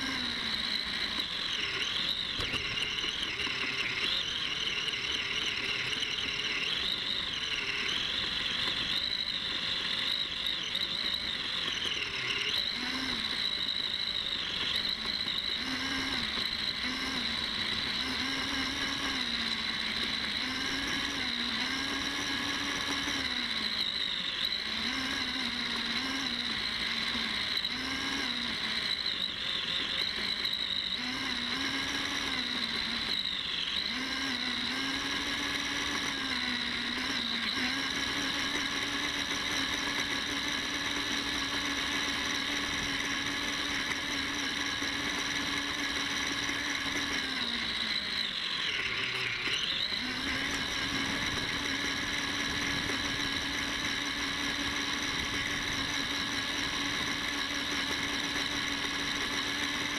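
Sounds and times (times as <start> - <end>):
electric motor whining: 0.0 - 59.9.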